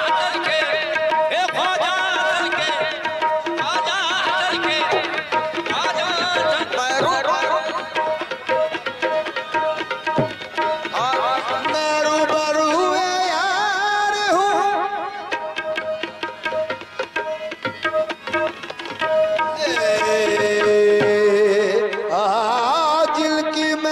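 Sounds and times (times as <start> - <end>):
harmonium drone: 0.0 - 23.9
man singing melismatic runs: 0.0 - 23.9
tabla strokes: 0.0 - 23.9.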